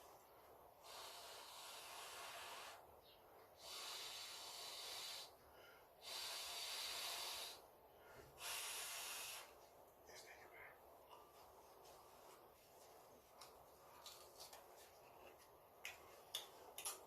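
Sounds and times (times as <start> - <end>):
faint hissing breaths: 0.0 - 17.0.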